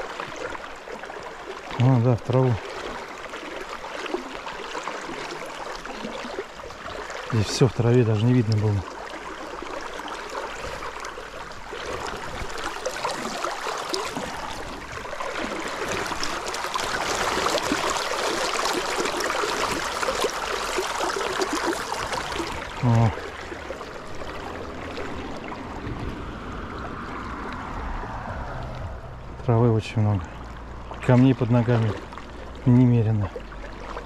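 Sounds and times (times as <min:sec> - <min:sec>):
river water splashing: 0:00.0 - 0:34.0.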